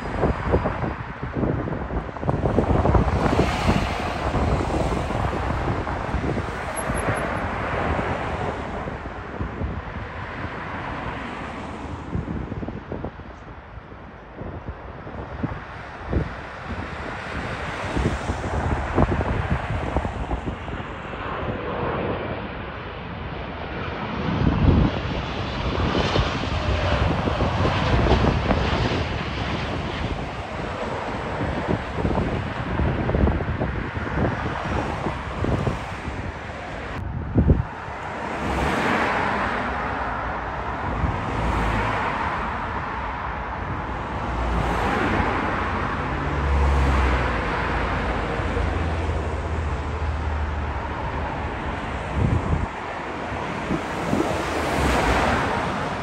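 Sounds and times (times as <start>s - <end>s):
cars and bus passing: 0.0s - 56.0s
jet engines rushing: 0.0s - 56.0s
wind buffeting microphone: 0.0s - 56.0s.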